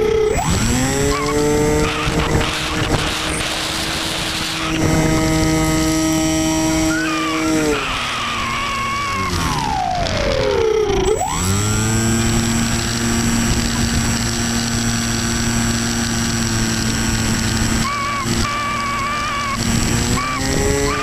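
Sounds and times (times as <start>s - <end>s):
electric motor and propeller: 0.0s - 21.0s.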